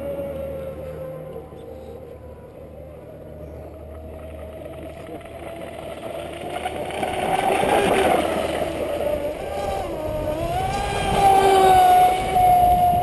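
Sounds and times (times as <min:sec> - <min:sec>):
speedboat motor whine: 0:00.0 - 0:13.0.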